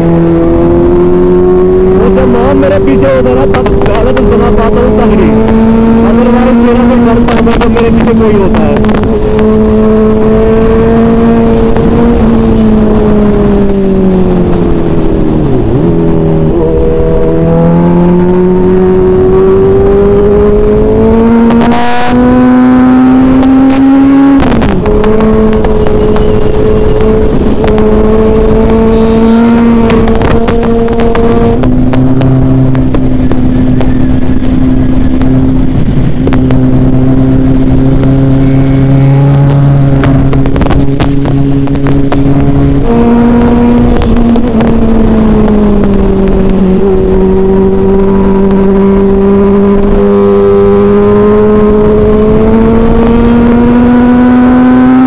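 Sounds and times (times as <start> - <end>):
lower engine note: 0.0 - 55.0
motorcycle engine revving: 0.0 - 55.0
wind noise: 0.0 - 55.0.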